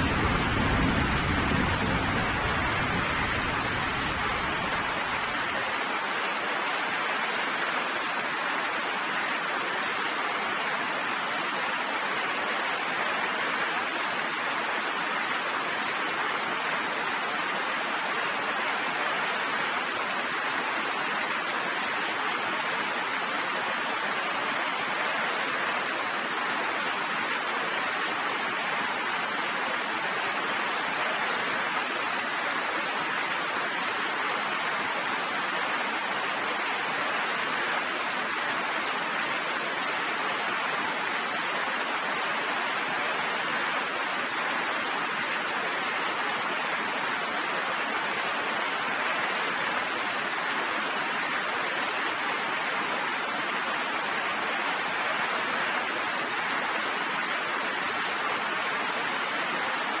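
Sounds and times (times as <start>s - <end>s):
steady rain falling: 0.0s - 60.0s.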